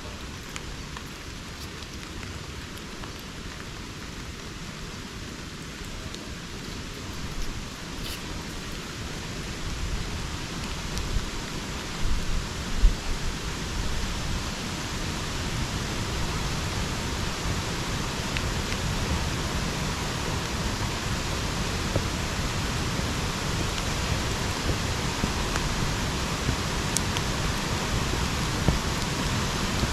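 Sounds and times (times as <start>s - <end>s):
steady rain hiss: 0.0s - 29.9s.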